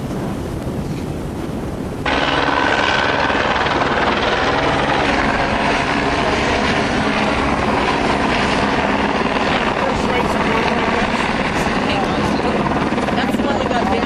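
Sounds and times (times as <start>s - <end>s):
water noise: 0.0s - 14.0s
wind: 0.0s - 14.0s
helicopter rotor and engine: 2.0s - 14.0s.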